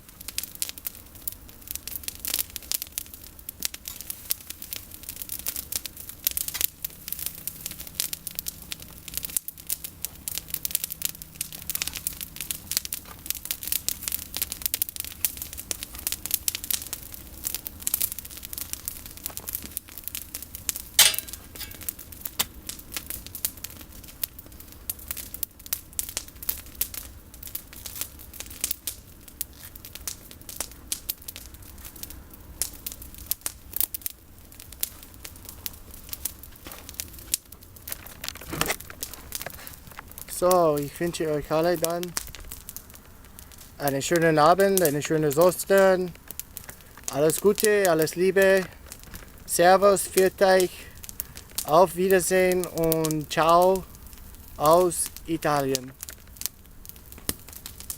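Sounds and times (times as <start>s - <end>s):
campfire crackling and snapping: 0.0s - 57.9s.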